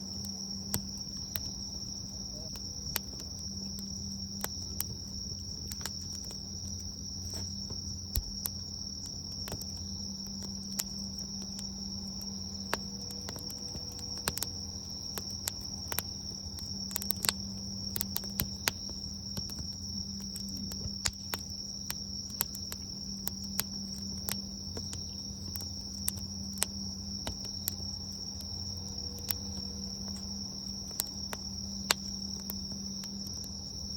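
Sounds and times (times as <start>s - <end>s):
bonfire crackling and popping: 0.0s - 33.9s
high-pitched insect trill: 0.0s - 33.9s.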